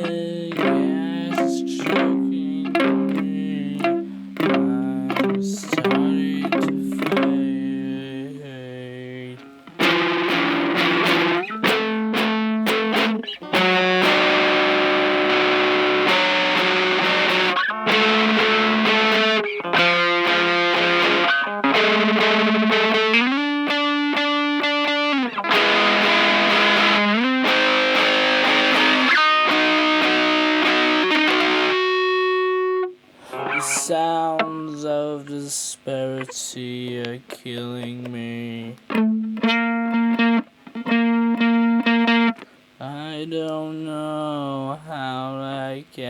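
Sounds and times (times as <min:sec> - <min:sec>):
distorted electric guitar chords: 0:00.0 - 0:35.1, 0:37.7 - 0:43.0.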